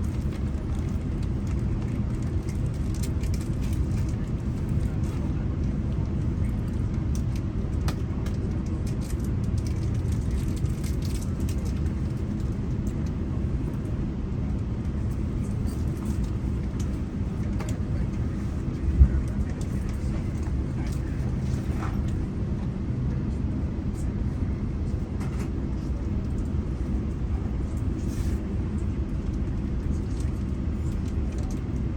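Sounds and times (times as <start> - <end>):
train rumbling: 0.0 - 31.9.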